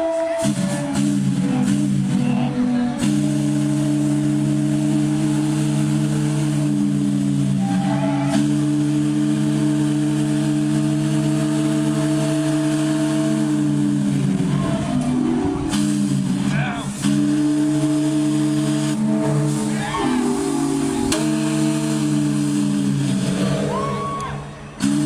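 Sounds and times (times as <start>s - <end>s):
ship's steam whistle: 0.0s - 16.2s, 17.0s - 25.0s.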